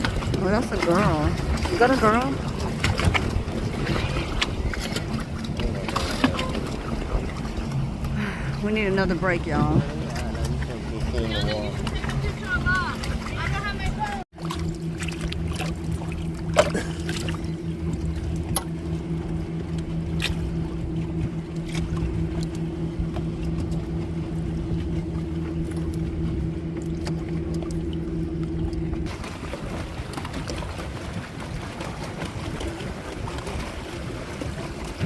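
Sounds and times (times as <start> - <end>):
boat engine droning: 0.0 - 35.0
rushing water and wind: 0.0 - 35.0.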